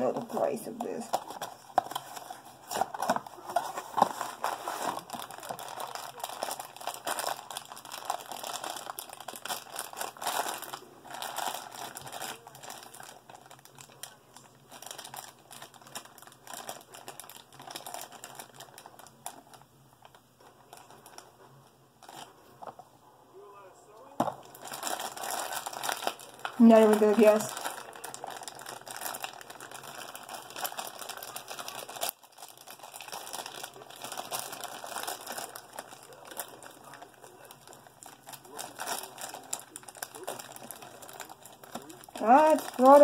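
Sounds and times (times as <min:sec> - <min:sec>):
packaging crinkling and tearing: 0:00.0 - 0:22.8, 0:24.2 - 0:43.0.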